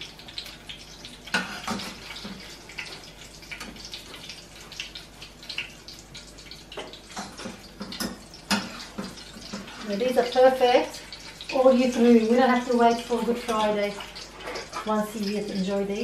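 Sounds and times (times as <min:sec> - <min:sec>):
food deep-frying in oil: 0:00.0 - 0:16.0
oil crackling and popping: 0:00.0 - 0:16.0.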